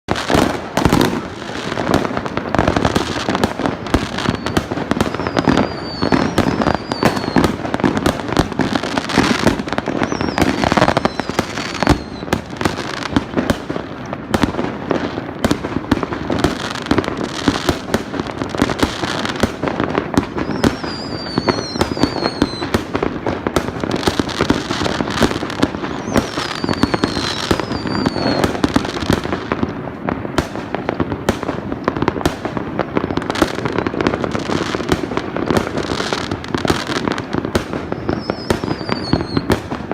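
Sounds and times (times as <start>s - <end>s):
fireworks bangs and crackles: 0.1s - 39.9s
fireworks whistles gliding down: 0.1s - 39.9s.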